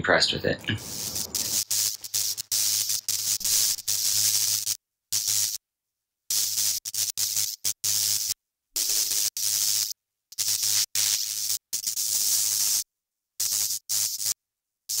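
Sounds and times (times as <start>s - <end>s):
static-like hiss bursts: 0.6s - 5.6s, 6.3s - 12.8s, 13.4s - 15.0s.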